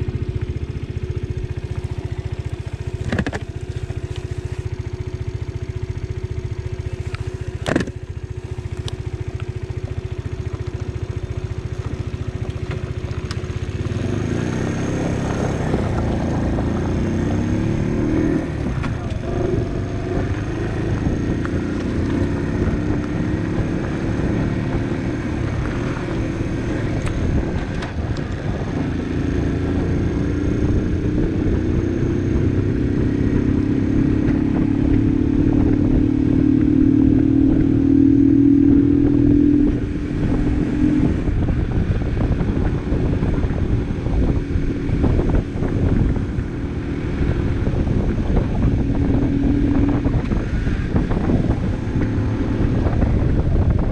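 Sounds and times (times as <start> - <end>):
moped engine running: 0.0 - 53.9
road and wind noise: 0.0 - 53.9.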